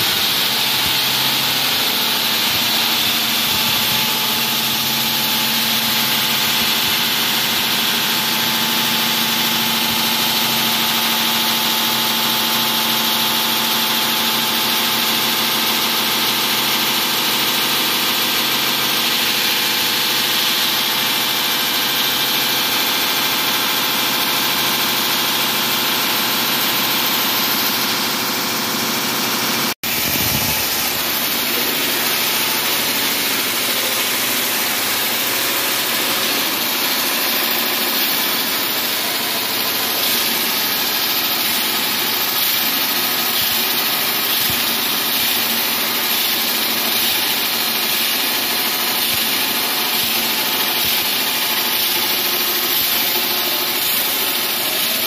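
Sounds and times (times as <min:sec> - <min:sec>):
wall saw droning: 0:00.0 - 0:11.4, 0:16.2 - 0:55.0.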